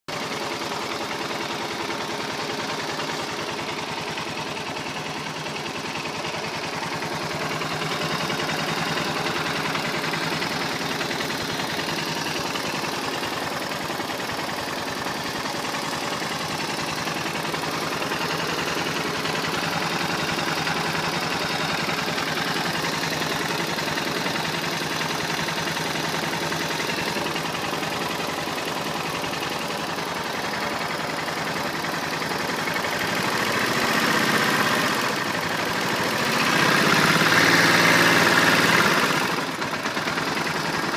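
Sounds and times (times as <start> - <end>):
engine idling: 0.0 - 40.9
fast ticking rattle: 0.1 - 40.9.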